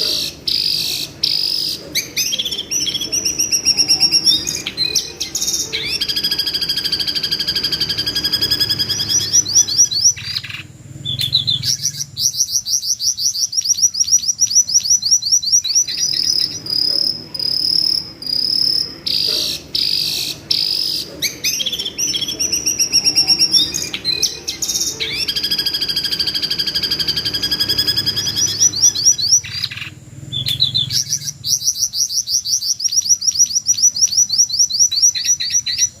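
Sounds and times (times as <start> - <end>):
bird screaming rapid high notes: 0.0 - 33.9.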